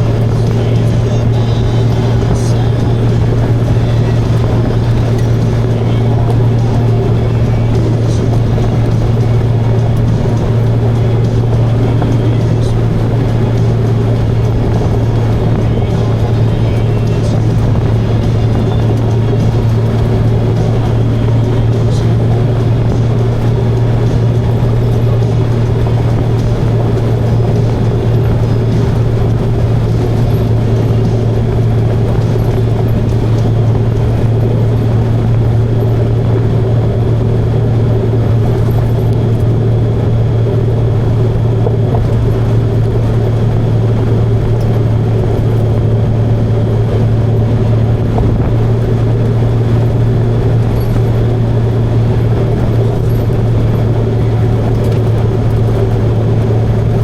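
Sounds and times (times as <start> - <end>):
motorcycle engine droning: 0.0 - 57.0
wind noise: 0.0 - 57.0.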